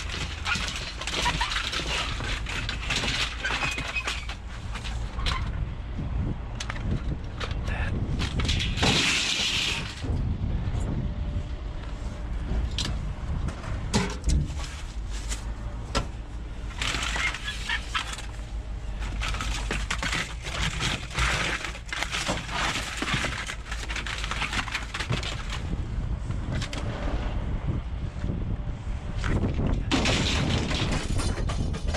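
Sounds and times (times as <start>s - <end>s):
scraping and rummaging: 0.0s - 5.8s, 6.5s - 10.2s, 11.9s - 25.8s, 29.2s - 31.9s
steady low rumble: 4.4s - 17.4s, 18.0s - 31.9s.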